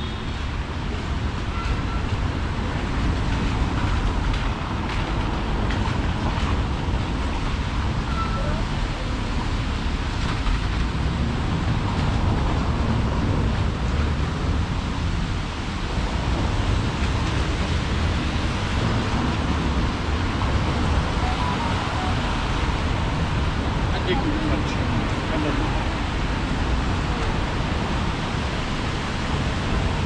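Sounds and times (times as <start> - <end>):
city street traffic: 0.0 - 30.0.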